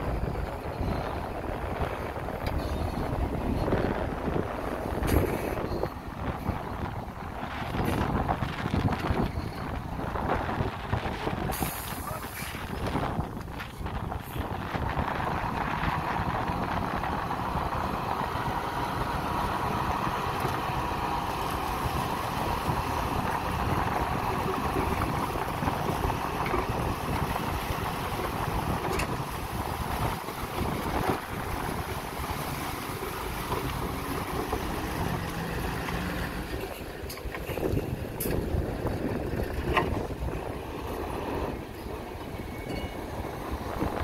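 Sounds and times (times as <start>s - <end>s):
diesel engine running: 0.0s - 44.0s
wind buffeting microphone: 0.0s - 44.0s.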